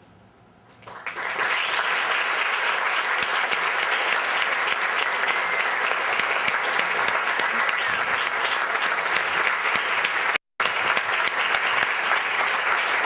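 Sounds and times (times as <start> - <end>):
audience applause: 0.8 - 13.0.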